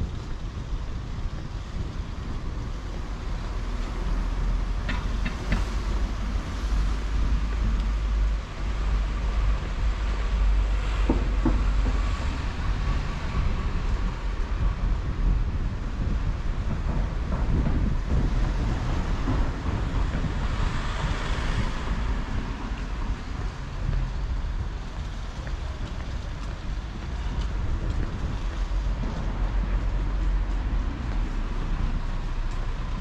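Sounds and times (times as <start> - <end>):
road traffic: 0.0 - 33.0
wind rumble on microphone: 0.0 - 33.0.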